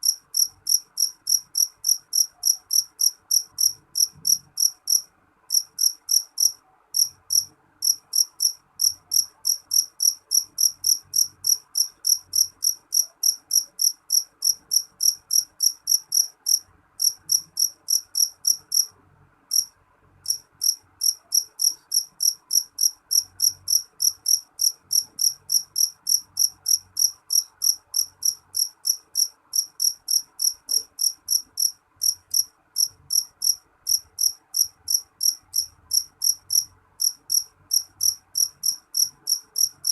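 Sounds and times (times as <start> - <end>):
cricket chirping: 0.0 - 18.9, 19.5 - 39.9.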